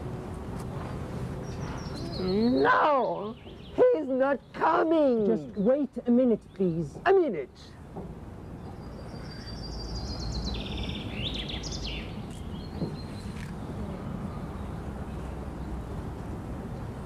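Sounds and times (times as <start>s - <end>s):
small birds chirping: 0.7s - 7.2s, 8.3s - 16.0s.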